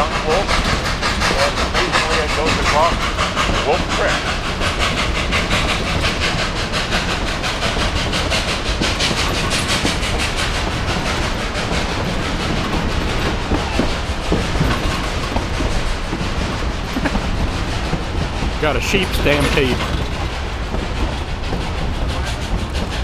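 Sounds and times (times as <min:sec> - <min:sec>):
train cars rumbling: 0:00.0 - 0:23.0
wheels clickety-clack on rails: 0:00.0 - 0:23.0.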